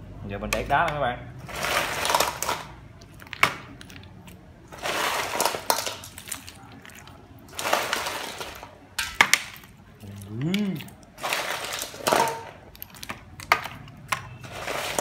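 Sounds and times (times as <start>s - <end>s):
ice cubes clinking in metal bowl: 0.8s - 4.0s, 4.7s - 9.8s, 10.4s - 15.0s
ice cubes clacking together: 1.4s - 15.0s.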